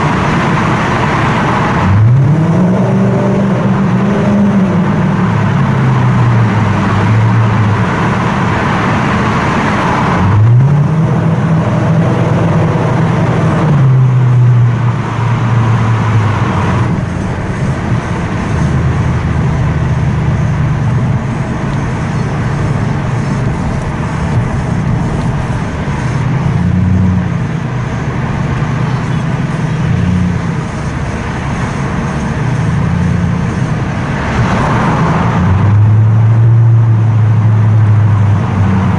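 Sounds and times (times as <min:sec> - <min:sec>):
car exhaust accelerating in tunnel: 0:00.0 - 0:38.9.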